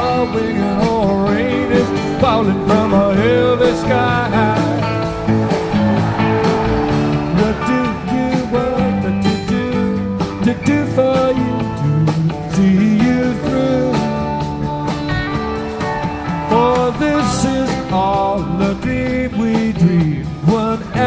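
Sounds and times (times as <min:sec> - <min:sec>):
bass: 0:00.0 - 0:21.0
electric guitar with bending notes: 0:00.0 - 0:21.0
steady drum beat: 0:00.4 - 0:19.8.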